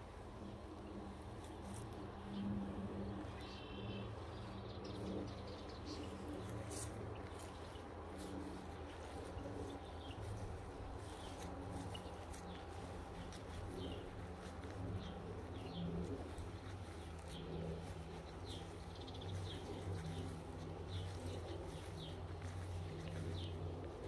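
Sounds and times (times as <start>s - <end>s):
low outdoor rumble: 0.0s - 24.0s
small birds chirping: 0.1s - 24.0s.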